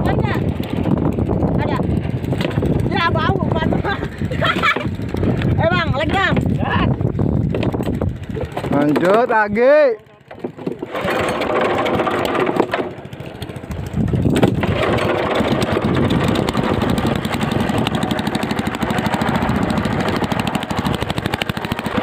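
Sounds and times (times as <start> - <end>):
small boat engine chugging: 0.0 - 22.0.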